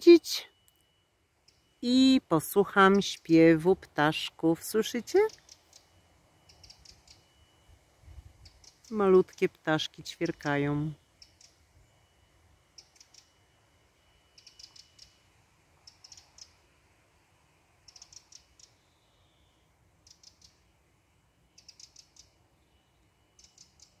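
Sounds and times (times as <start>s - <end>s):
songbirds chirping: 0.0s - 17.1s, 17.8s - 24.0s.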